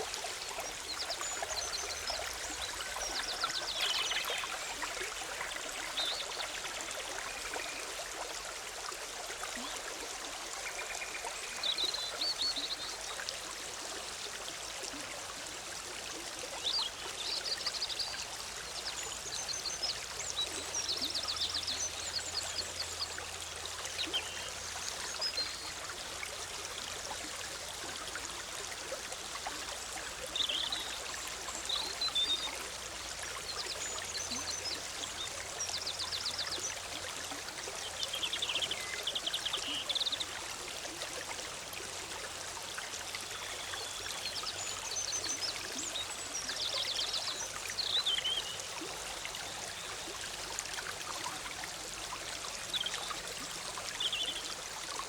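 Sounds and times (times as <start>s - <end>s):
bubbling stream flowing: 0.0s - 55.0s.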